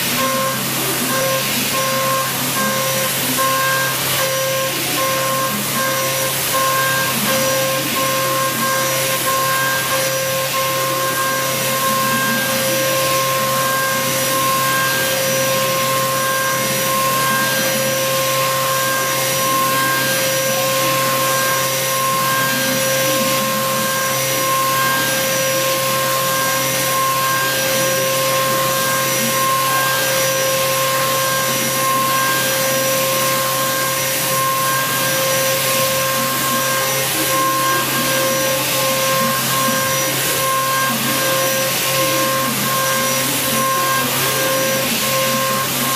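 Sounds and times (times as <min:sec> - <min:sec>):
end mill cutting steel: 0:00.0 - 0:45.9.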